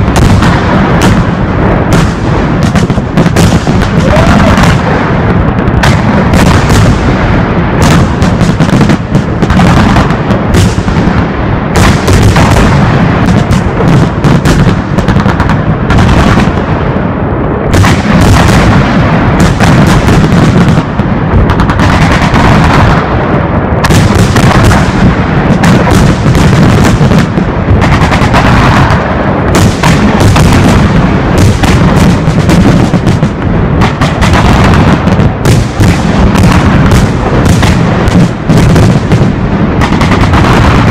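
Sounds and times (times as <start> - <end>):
fireworks bursting bangs: 0.0 - 40.9.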